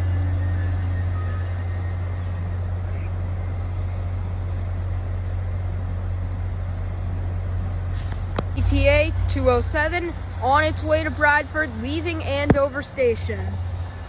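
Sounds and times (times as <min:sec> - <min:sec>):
diesel locomotive droning: 0:00.0 - 0:14.0.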